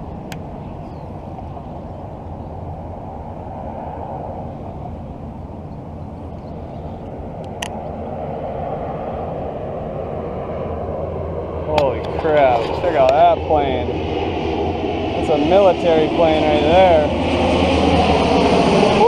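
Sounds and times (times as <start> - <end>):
jet aircraft rumble: 0.0 - 19.0.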